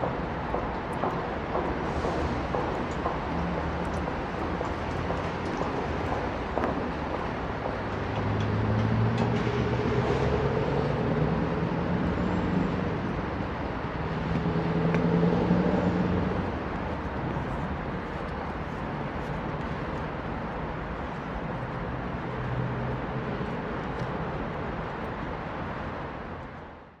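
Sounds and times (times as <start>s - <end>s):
city road traffic: 0.0s - 27.0s
vehicles passing: 0.0s - 27.0s.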